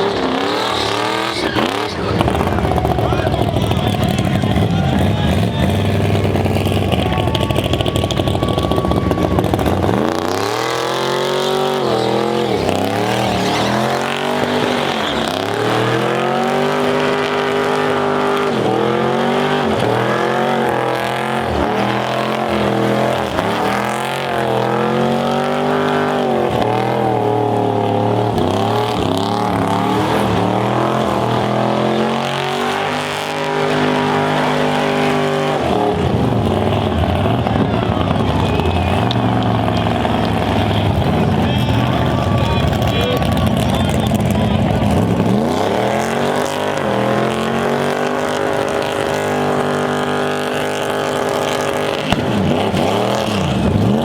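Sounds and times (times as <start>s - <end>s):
van engine revving hard: 0.0s - 54.0s.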